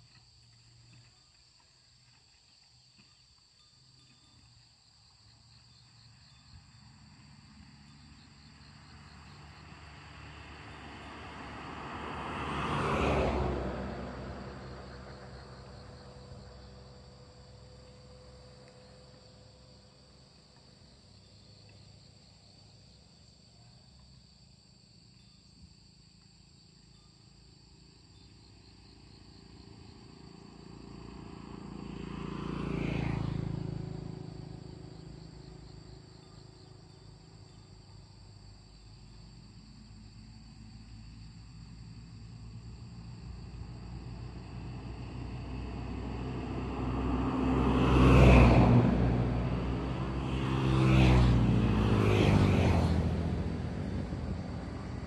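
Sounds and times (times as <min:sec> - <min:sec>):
motorbike approaching: 0:00.0 - 0:22.8, 0:26.8 - 0:55.0
insects chorus: 0:00.0 - 0:55.0
vehicle passing: 0:05.8 - 0:23.2, 0:27.3 - 0:55.0.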